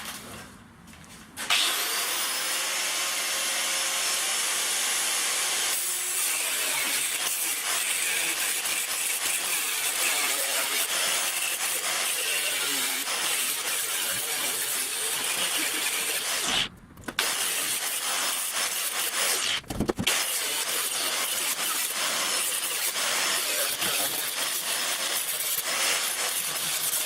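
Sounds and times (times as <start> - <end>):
power tool cutting sheet metal: 1.4 - 27.0.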